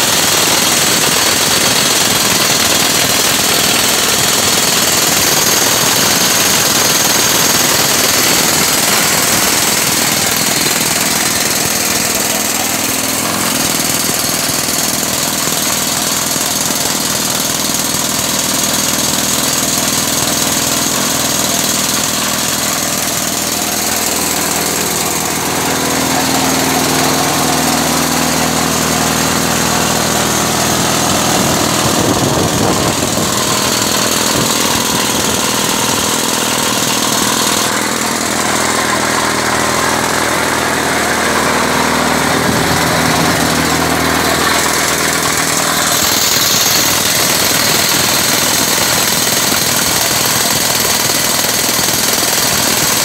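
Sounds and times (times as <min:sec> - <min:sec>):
loud engine running: 0:00.0 - 0:53.0
rock drill hammering: 0:00.0 - 0:53.0.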